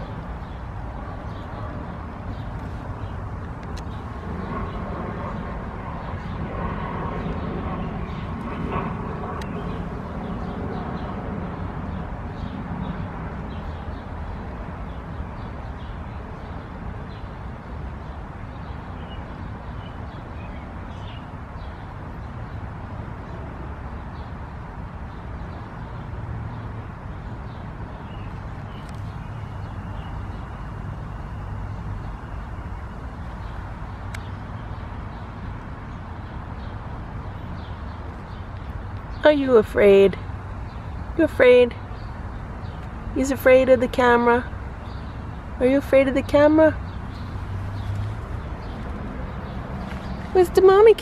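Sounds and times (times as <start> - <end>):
outdoor background rumble: 0.0 - 51.0.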